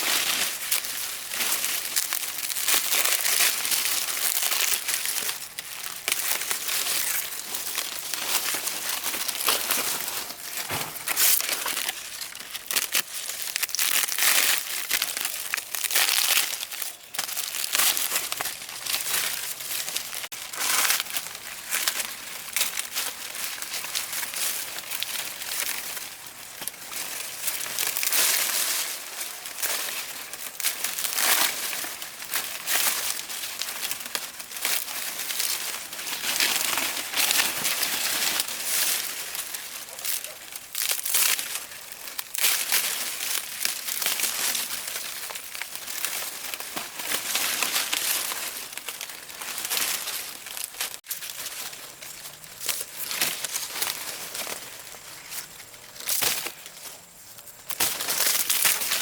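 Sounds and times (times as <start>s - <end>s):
dry material crinkling and rustling: 0.0s - 59.0s.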